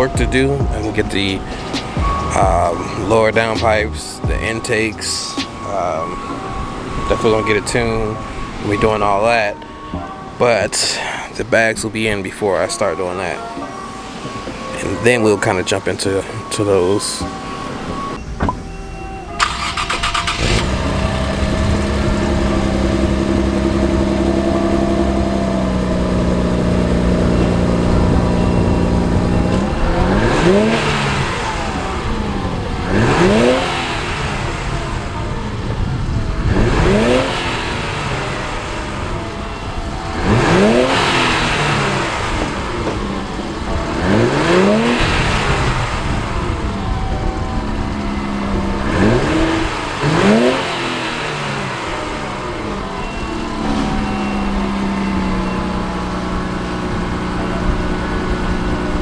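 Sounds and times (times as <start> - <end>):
car engine idling: 0.0 - 59.0
car engine revving: 0.0 - 59.0
car engine starting: 0.0 - 59.0.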